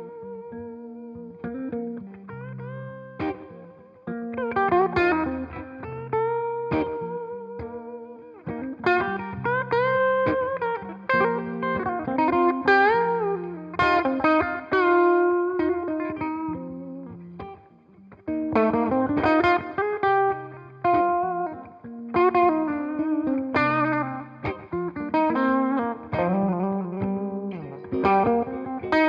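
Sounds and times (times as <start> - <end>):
electric guitar through an amp: 0.0 - 29.0.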